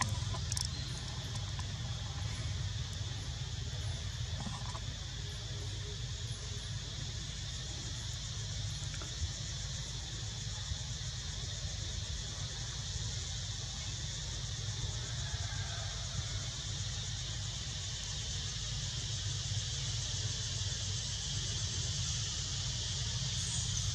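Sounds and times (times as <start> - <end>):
insects chorus: 0.0 - 23.9.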